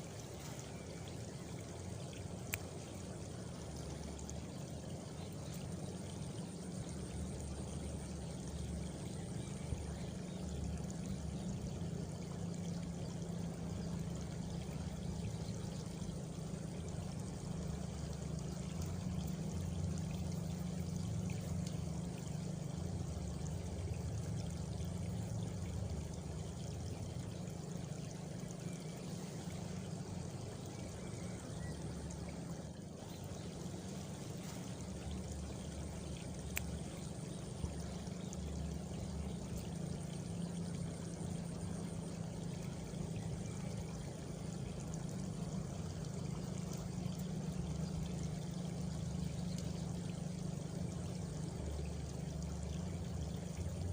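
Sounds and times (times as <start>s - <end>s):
rushing flowing water: 0.0s - 53.9s.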